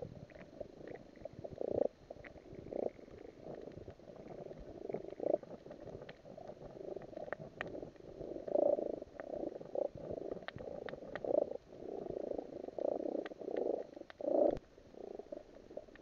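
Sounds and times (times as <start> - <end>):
muffled underwater rumbling: 0.0 - 16.0
sharp underwater clicks: 0.2 - 11.5, 12.7 - 14.6.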